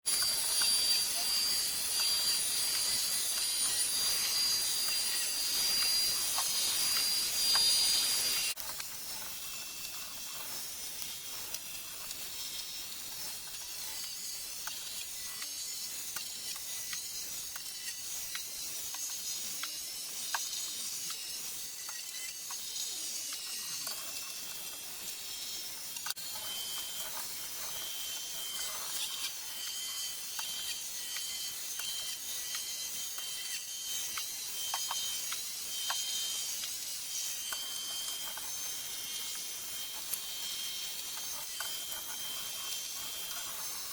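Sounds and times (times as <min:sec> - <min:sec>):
robot vacuum hiss: 0:00.1 - 0:43.9.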